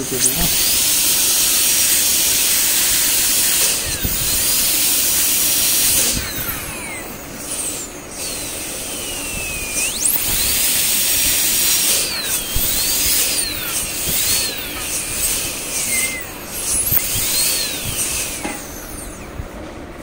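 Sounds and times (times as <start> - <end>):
dental drill whining: 0.0 - 19.7.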